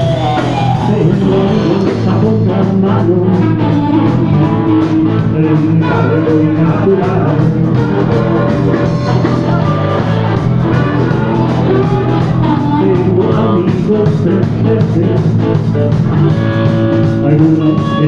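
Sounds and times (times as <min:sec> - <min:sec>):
blues-rock band playing: 0:00.0 - 0:18.0.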